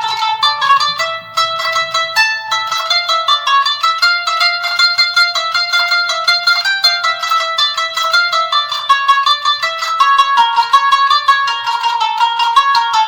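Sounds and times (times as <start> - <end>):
plucked string notes: 0.0 - 13.0.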